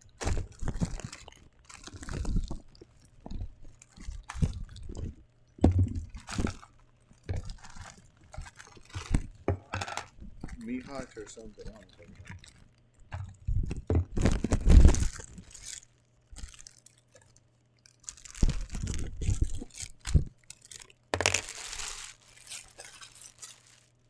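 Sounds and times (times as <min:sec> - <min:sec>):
packaging crinkling and tearing: 0:00.2 - 0:05.2, 0:06.0 - 0:12.8, 0:14.2 - 0:17.2, 0:17.9 - 0:24.0.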